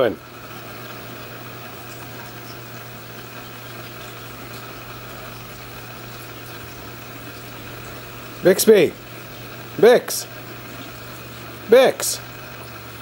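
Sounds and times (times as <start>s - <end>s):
pool pump motor humming: 0.0s - 13.0s.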